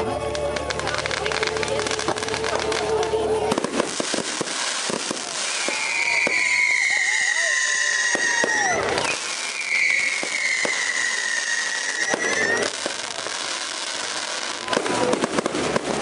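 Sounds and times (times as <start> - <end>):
firework crackling: 0.0 - 16.0
firework bangs: 0.4 - 16.0
firework whistle: 1.8 - 16.0.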